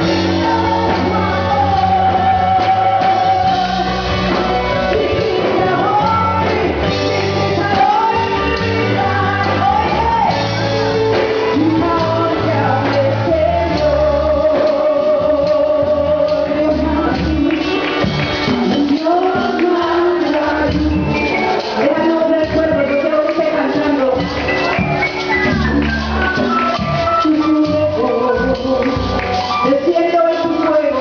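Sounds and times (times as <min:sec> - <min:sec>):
church band playing worship song: 0:00.0 - 0:31.0.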